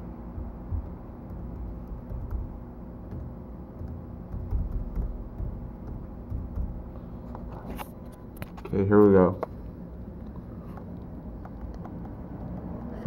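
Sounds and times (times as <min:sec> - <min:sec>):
low background rumble: 0:00.0 - 0:13.0
keyboard typing: 0:00.4 - 0:08.8, 0:10.0 - 0:13.0.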